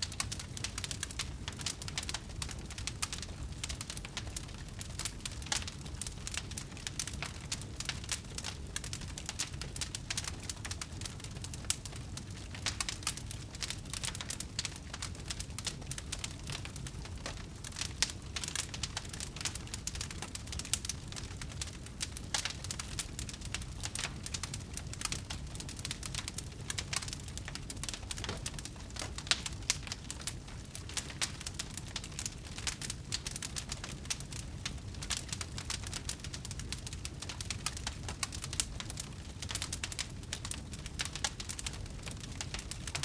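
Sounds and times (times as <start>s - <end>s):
loud fire pops: 0.0s - 43.0s
low rumble of flames: 0.0s - 43.0s
wood fire crackling: 0.0s - 43.0s.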